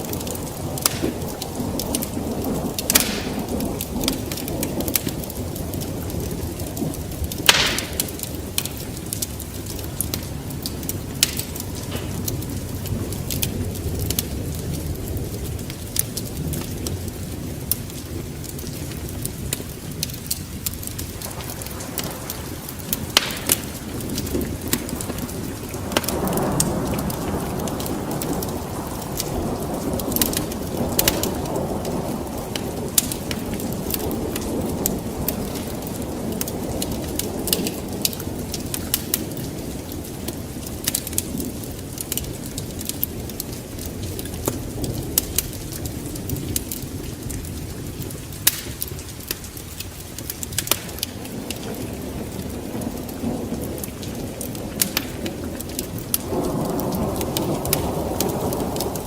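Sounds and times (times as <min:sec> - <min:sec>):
sharp pops and crackles: 0:00.0 - 0:14.8, 0:15.4 - 0:59.0
steady rain: 0:00.0 - 0:59.0
thunder rumble: 0:00.0 - 0:59.0.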